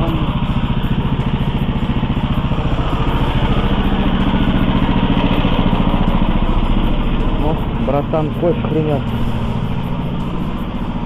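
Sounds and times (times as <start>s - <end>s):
single-cylinder petrol engine running: 0.0s - 11.0s.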